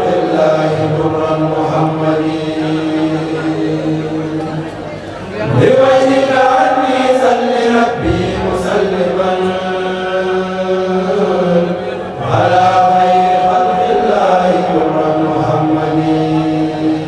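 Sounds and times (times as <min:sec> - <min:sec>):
group chanting without instruments: 0:00.0 - 0:17.0.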